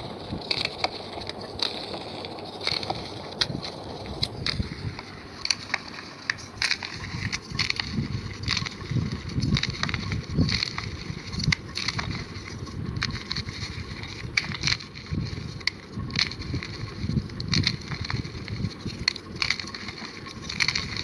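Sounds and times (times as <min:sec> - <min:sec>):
chalk crunching and crackling: 0:00.0 - 0:21.0.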